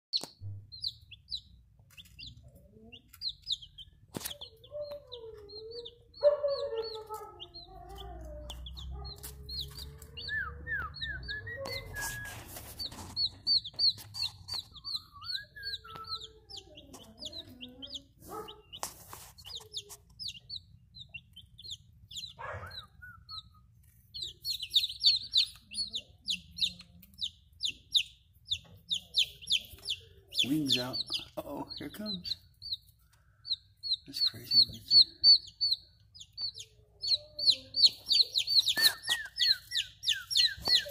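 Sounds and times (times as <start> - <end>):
chick peeping: 0.2 - 40.9.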